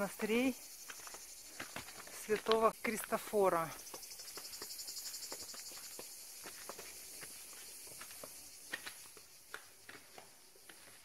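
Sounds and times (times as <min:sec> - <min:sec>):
cicadas hissing: 0:00.0 - 0:11.0
footsteps walking: 0:00.8 - 0:11.0.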